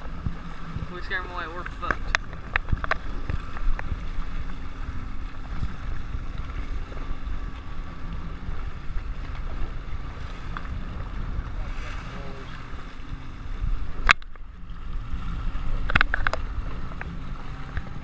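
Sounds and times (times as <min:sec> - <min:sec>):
jet ski engine running: 0:00.0 - 0:18.0
wind buffeting microphone: 0:00.0 - 0:18.0.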